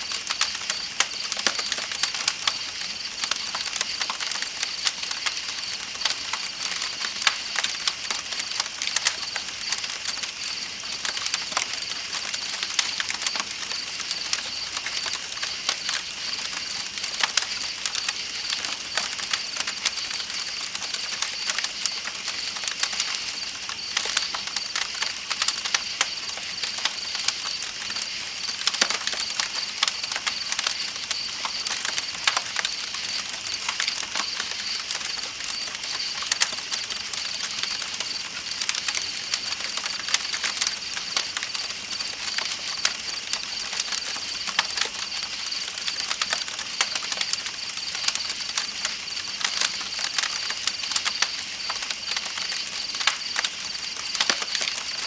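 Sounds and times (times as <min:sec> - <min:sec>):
campfire crackling: 0:00.0 - 0:55.0
night insects chirping: 0:00.1 - 0:55.0.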